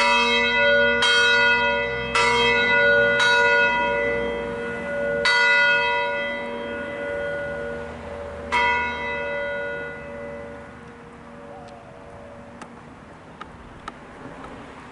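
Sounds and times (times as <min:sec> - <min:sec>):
church bell ringing: 0:00.0 - 0:12.6.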